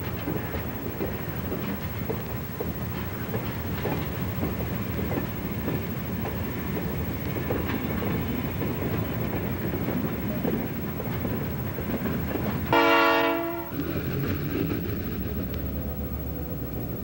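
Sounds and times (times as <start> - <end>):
wheels clicking over rail joints: 0.0 - 16.3
diesel locomotives rumbling: 0.0 - 17.0.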